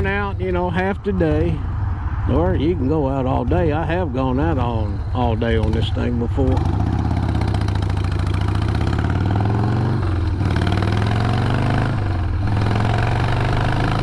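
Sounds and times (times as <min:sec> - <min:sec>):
motorcycle engine shifting gears: 0:00.0 - 0:14.0.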